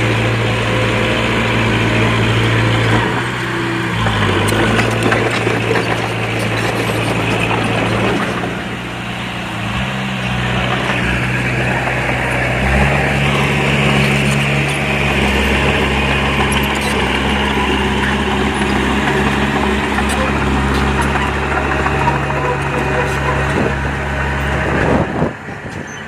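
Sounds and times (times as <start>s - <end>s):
diesel engine of earthmoving machinery: 0.0s - 26.0s.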